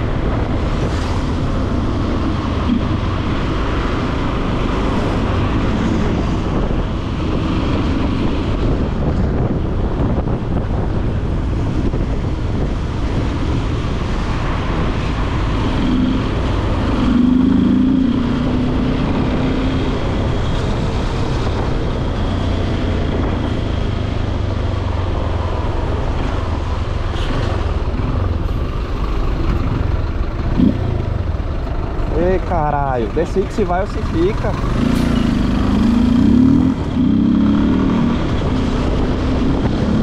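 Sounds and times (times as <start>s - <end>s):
motorcycle engine drone: 0.0s - 40.0s
wind noise: 0.0s - 40.0s.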